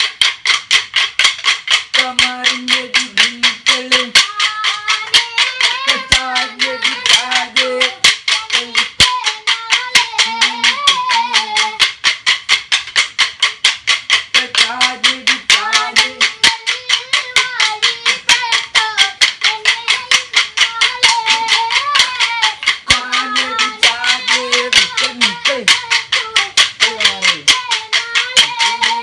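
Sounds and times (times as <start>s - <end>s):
wooden sticks clacking: 0.0s - 29.0s
voices singing a folk melody: 1.9s - 12.0s, 14.3s - 29.0s.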